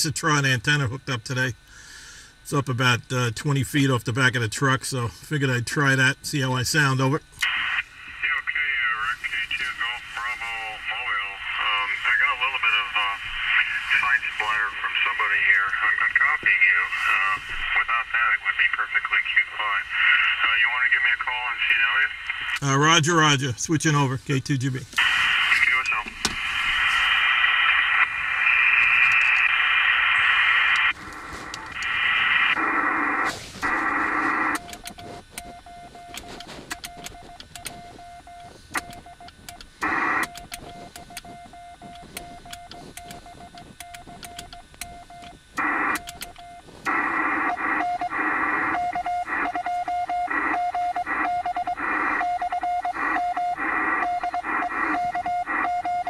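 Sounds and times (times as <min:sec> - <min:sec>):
radio static hiss: 0:00.0 - 0:56.0
whistling radio tone: 0:07.4 - 0:22.7, 0:25.0 - 0:39.1, 0:39.8 - 0:56.0.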